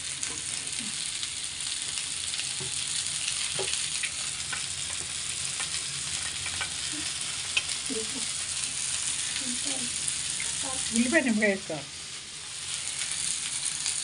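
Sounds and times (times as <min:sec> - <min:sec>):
fish sizzling in pan: 0:00.0 - 0:14.0.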